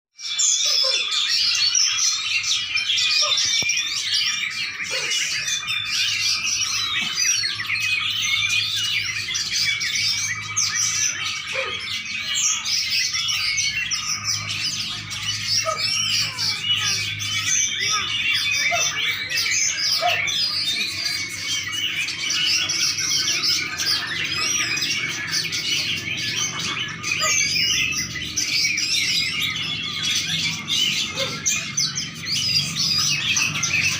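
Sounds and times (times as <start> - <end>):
songbirds chirping and singing: 0.2 - 33.9.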